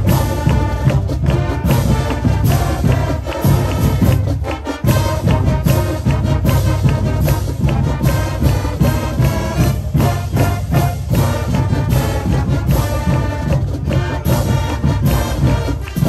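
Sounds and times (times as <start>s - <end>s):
driving drum beat: 0.0s - 16.0s
marching band brass: 0.0s - 16.0s.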